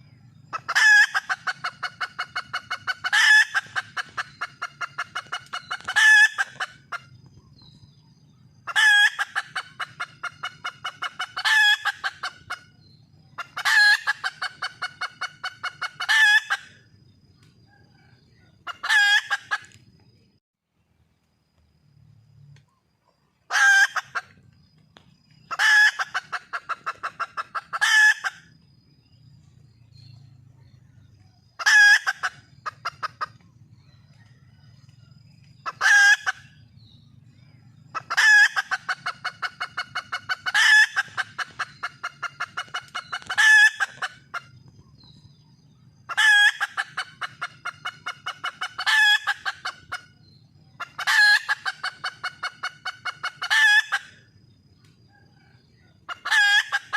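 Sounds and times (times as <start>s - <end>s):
junglefowl hen calling: 0.0s - 19.8s, 22.7s - 29.1s, 29.9s - 56.9s
hen clucking: 0.0s - 19.9s, 23.4s - 28.6s, 30.0s - 37.2s, 37.8s - 56.9s.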